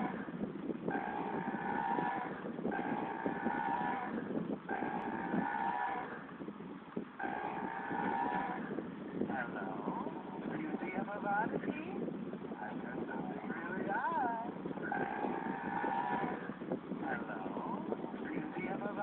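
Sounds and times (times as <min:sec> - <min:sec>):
low motor rumble: 0:00.0 - 0:19.0.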